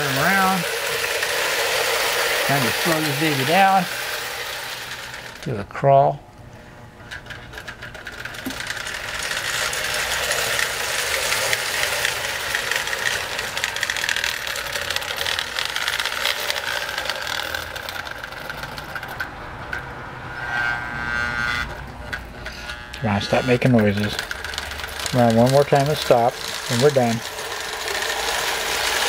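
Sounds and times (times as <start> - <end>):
toy train motor whirring: 0.0 - 5.5, 7.0 - 29.0
wheels clattering on rails: 0.0 - 5.5, 7.0 - 29.0.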